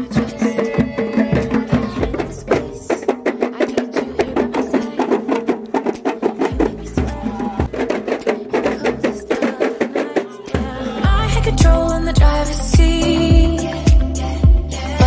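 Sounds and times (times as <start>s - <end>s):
barrel drum: 0.0s - 14.6s
frame drums beating fast rhythm: 0.0s - 15.0s.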